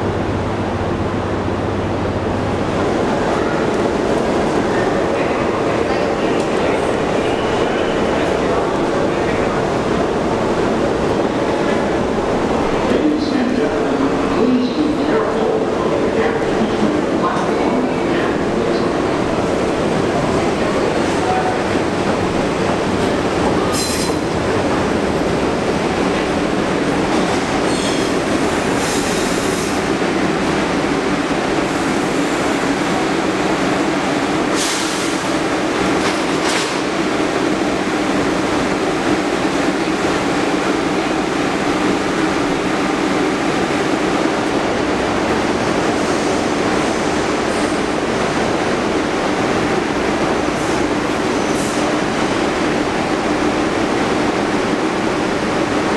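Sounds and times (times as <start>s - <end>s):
subway train pulling in: 0.0s - 55.9s
train equipment rumble and hum: 0.0s - 55.9s.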